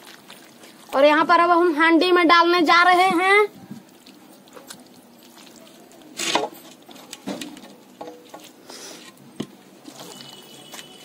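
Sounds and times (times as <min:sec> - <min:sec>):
wet squelching of meat by hand: 0:00.0 - 0:01.6, 0:03.5 - 0:11.0.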